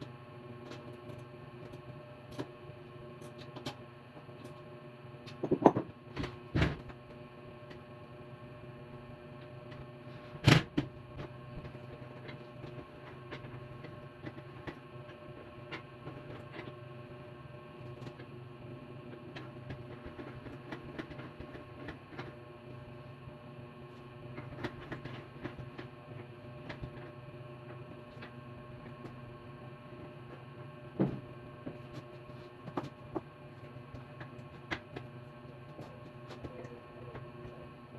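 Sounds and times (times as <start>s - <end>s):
steady hum: 0.0s - 37.9s.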